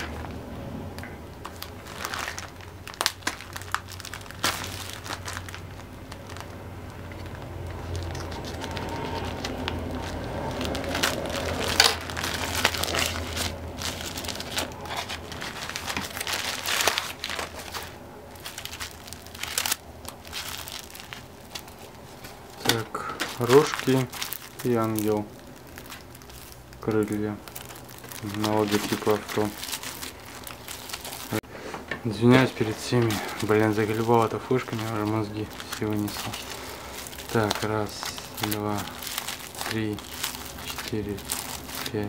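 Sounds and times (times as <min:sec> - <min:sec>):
plastic bag crinkling: 0:00.0 - 0:31.5, 0:32.1 - 0:42.0
sticker packs handled: 0:01.0 - 0:31.4, 0:32.1 - 0:42.0.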